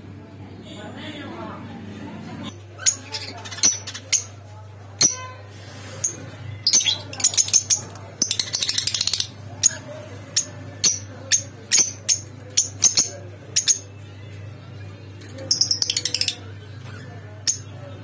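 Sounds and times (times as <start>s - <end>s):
cage birds chirping: 0.7s - 18.0s.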